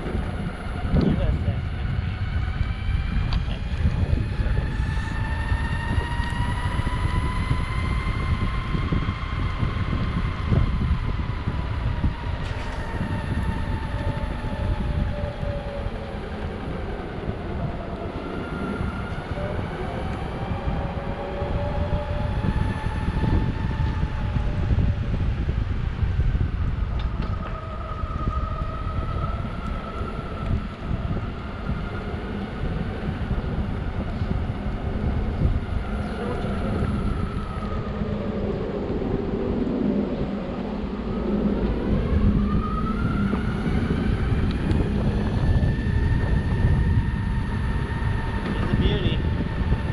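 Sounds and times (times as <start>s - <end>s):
wheels rolling on pavement: 0.0s - 49.9s
electric motor whine: 0.1s - 40.0s, 40.6s - 49.9s.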